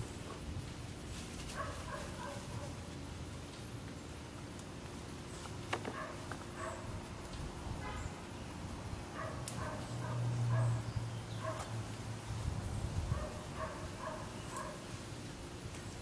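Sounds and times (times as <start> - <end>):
rustling of plants being picked: 0.0 - 16.0.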